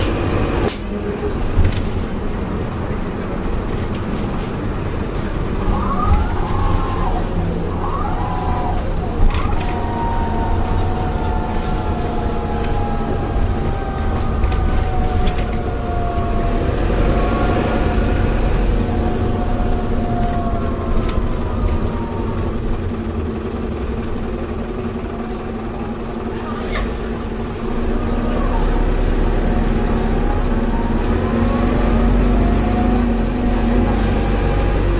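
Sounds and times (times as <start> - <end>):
low engine rumble: 0.0 - 34.9.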